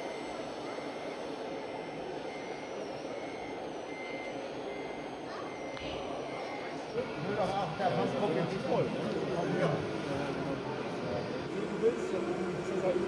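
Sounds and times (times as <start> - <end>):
steady whirring noise: 0.0 - 13.0.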